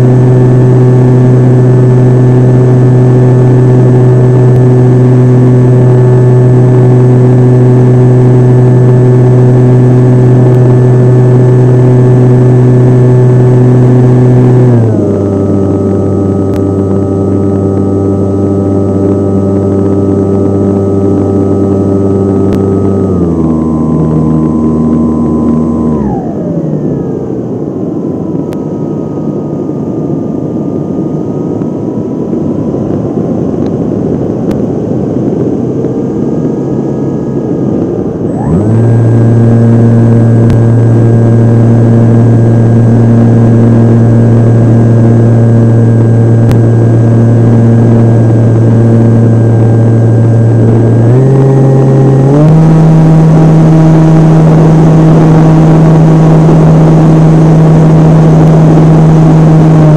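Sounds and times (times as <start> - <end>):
electric motor and propeller drone: 0.0 - 59.9.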